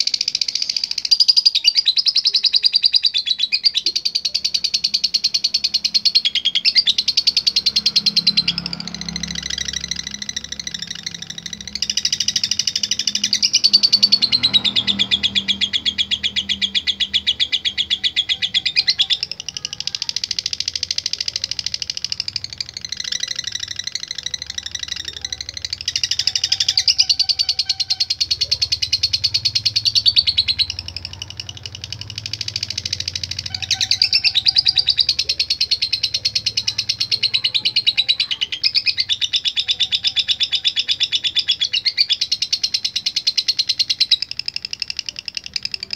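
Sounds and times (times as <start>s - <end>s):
lovebird chattering: 0.0s - 45.9s.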